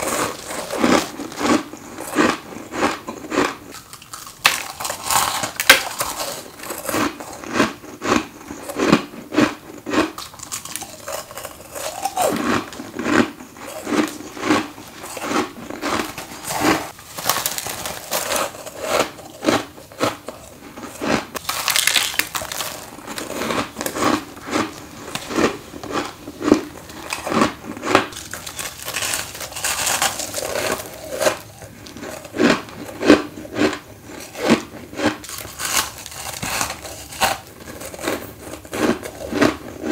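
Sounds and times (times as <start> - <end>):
biting into crunchy frost: 0.0 - 33.8, 34.4 - 39.9.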